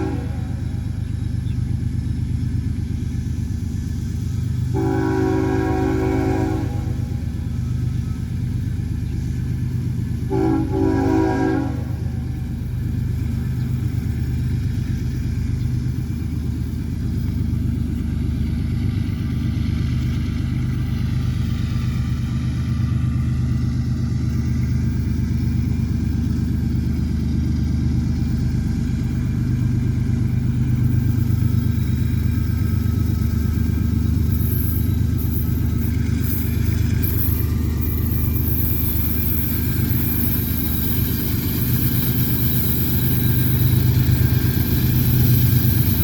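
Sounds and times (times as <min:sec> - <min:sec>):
diesel locomotive engine rumble: 0:00.0 - 0:46.0.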